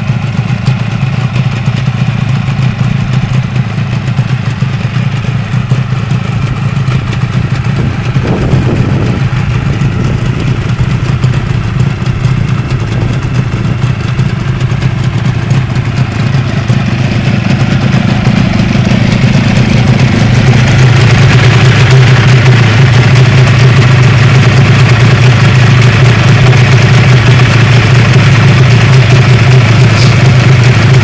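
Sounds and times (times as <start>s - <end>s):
two-stroke engine idling: 0.0s - 31.0s.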